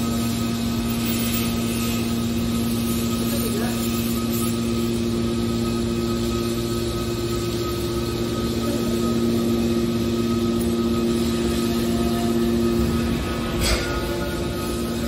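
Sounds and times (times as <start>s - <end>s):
hydraulic machine hum: 0.0s - 15.0s.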